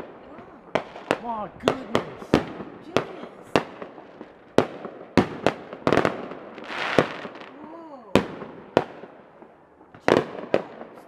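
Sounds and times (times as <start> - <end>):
fireworks bangs: 0.0 - 11.0
fireworks hissing crackle: 0.0 - 11.0.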